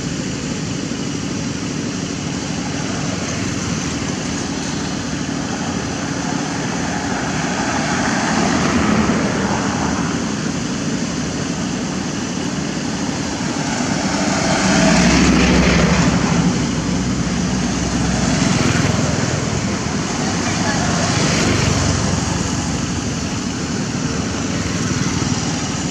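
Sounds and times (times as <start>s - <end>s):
road traffic noise: 0.0s - 25.9s
vehicle passing: 2.4s - 11.0s, 11.9s - 25.9s.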